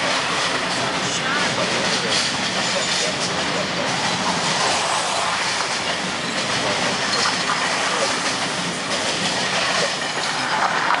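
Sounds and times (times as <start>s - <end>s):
train rumbling past: 0.0s - 11.0s
wheels clattering over rail joints: 0.0s - 11.0s.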